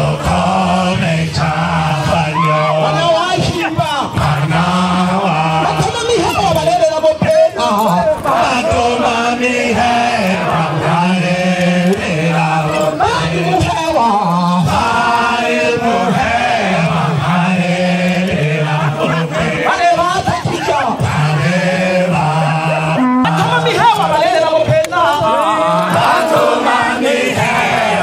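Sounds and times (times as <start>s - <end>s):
group of voices chanting: 0.0s - 6.0s, 7.6s - 23.8s, 24.6s - 28.0s.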